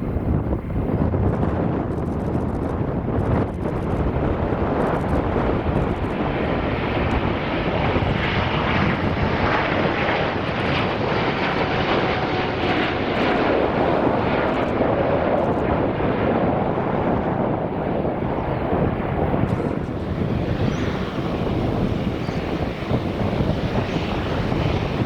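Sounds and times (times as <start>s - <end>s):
jet engines at takeoff: 0.0s - 25.0s.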